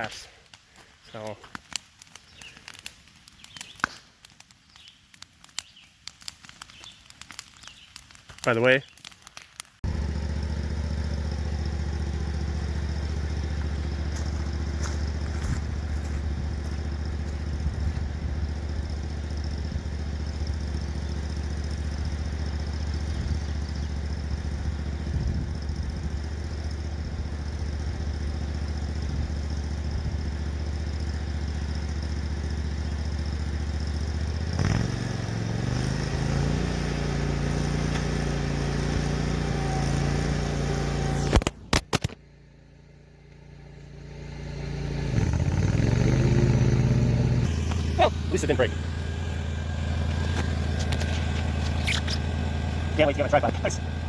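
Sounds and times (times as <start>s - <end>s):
lawn mower engine running: 9.8s - 54.0s.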